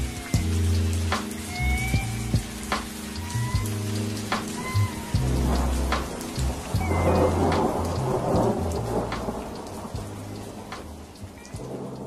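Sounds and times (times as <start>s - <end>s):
steady rain: 0.0s - 12.0s
thunder rumble: 0.0s - 12.0s.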